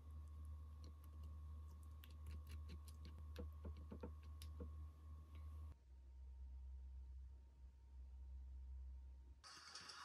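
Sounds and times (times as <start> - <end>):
low steady hum: 0.0 - 9.4.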